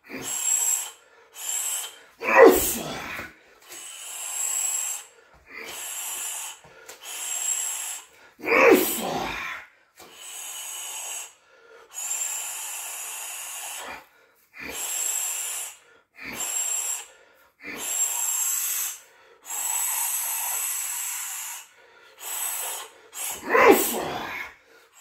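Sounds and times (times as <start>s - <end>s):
man hissing breaths through teeth: 0.0s - 25.0s.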